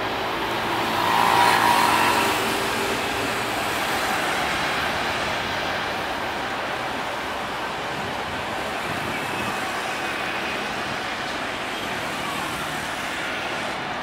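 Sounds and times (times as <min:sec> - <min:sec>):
jet engines passing: 0:00.0 - 0:14.0.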